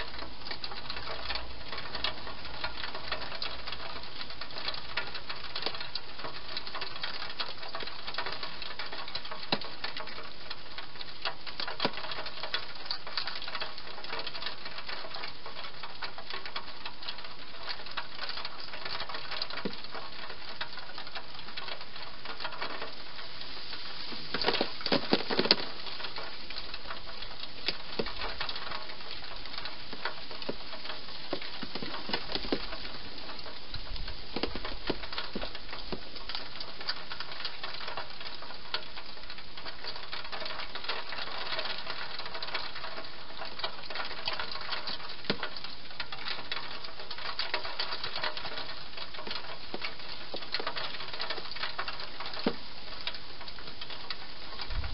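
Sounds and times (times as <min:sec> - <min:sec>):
constant hiss: 0:00.0 - 0:54.9.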